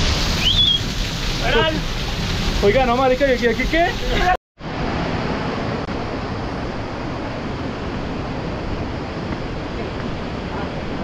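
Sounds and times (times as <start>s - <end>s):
waterfall and river rushing: 0.0s - 11.0s.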